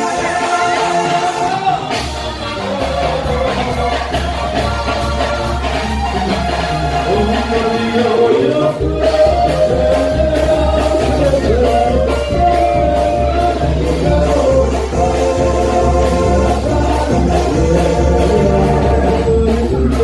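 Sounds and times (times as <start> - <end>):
band with pulsing bass beat: 0.0 - 20.0
person singing: 0.0 - 20.0.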